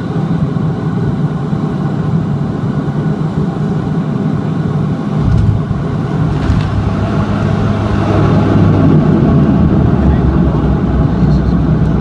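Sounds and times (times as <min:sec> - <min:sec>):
turboprop engines running: 0:00.0 - 0:12.0
wheels rumbling on runway: 0:00.0 - 0:12.0.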